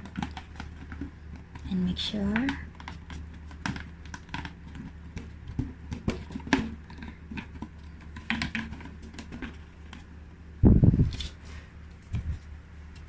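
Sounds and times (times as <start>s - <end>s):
hands clicking and rustling plastic: 0.0s - 10.2s, 11.1s - 13.0s
faint low hum: 0.0s - 13.0s.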